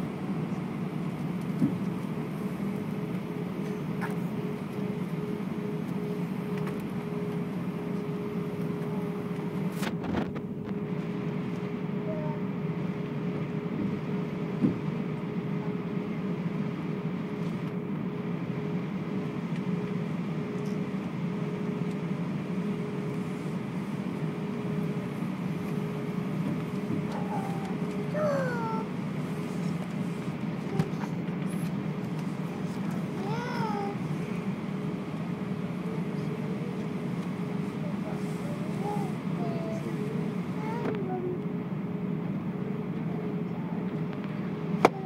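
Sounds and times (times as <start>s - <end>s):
jet engines droning: 0.0s - 45.0s.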